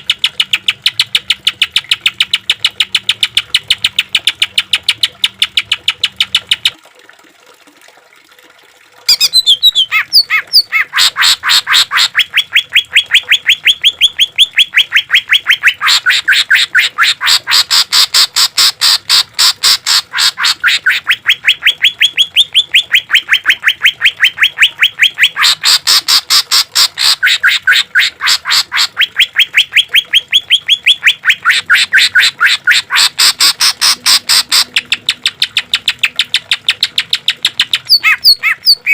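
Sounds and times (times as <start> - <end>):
leafbird singing repeated notes: 0.0 - 6.7, 9.1 - 38.9.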